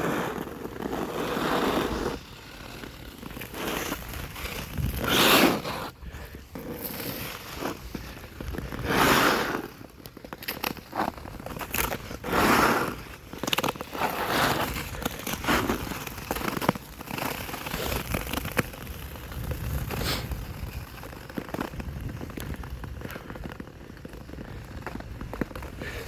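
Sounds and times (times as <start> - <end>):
scraping strokes on ice: 0.0 - 26.0
sharp ice crackles: 0.0 - 26.0.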